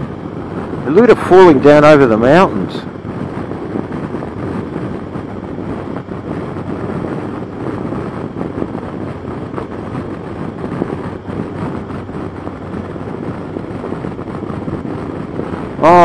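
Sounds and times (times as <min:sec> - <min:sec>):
motorcycle engine cruising: 0:00.0 - 0:16.0
wind rush: 0:00.0 - 0:16.0.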